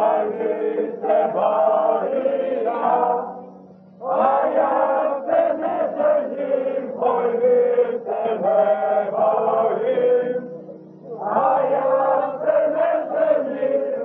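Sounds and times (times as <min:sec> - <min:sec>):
group singing chant-like song: 0:00.0 - 0:14.0.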